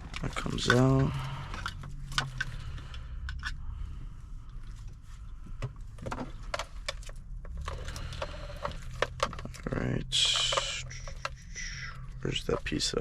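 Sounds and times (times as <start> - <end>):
small clicks and rattles of parts: 0.0 - 3.6, 4.5 - 13.0
steady low hum: 0.0 - 13.0.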